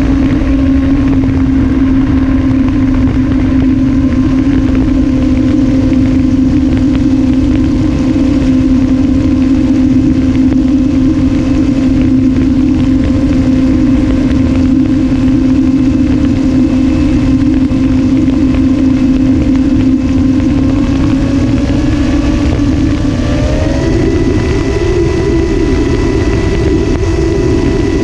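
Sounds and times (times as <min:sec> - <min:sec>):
electric motor and propeller drone: 0:00.0 - 0:28.0
low rumble: 0:00.0 - 0:28.0.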